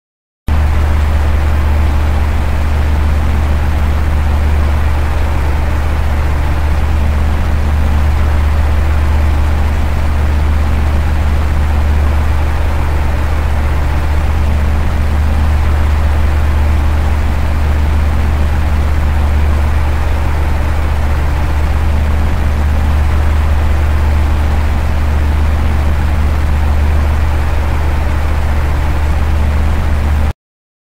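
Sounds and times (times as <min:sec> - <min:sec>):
electric fan humming: 0:00.5 - 0:30.3.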